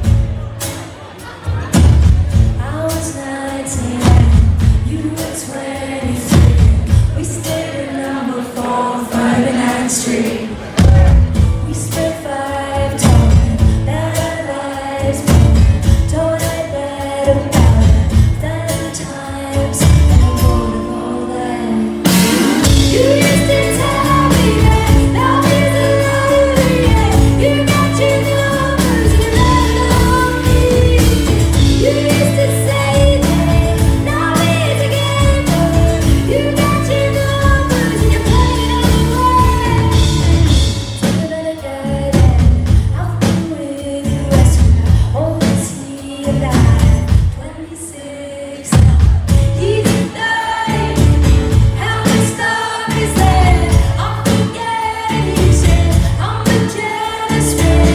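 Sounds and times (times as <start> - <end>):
full band playing: 0.0 - 57.9
woman singing: 2.5 - 57.9.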